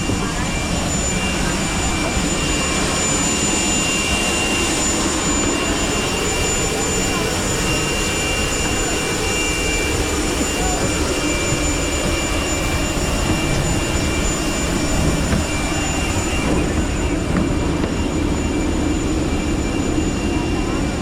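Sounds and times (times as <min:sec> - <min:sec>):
airliner engines droning: 0:00.0 - 0:21.0
high whine: 0:00.0 - 0:21.0.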